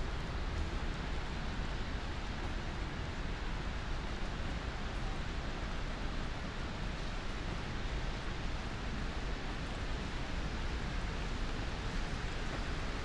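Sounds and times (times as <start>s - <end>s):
low rumble of city noise: 0.0s - 13.0s
rain on wet pavement: 0.0s - 13.0s.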